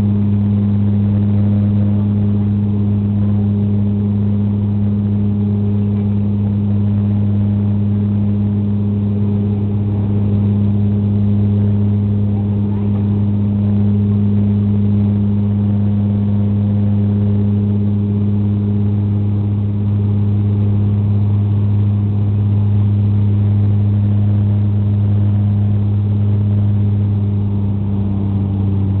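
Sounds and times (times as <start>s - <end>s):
turboprop engine drone: 0.0s - 29.0s.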